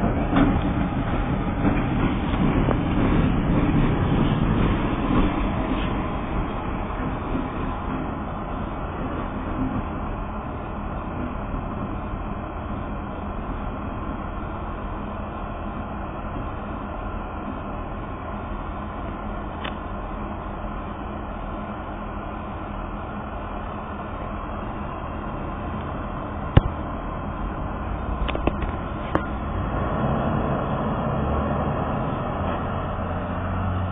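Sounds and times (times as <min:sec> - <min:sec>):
bus diesel engine idling: 0:00.0 - 0:33.9.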